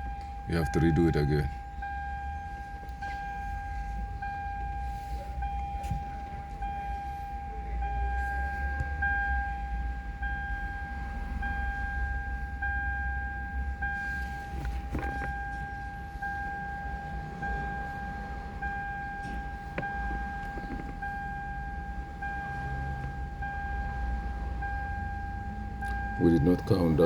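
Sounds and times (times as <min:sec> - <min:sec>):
electronic warning chime beeping: 0:00.0 - 0:14.5, 0:15.1 - 0:27.0.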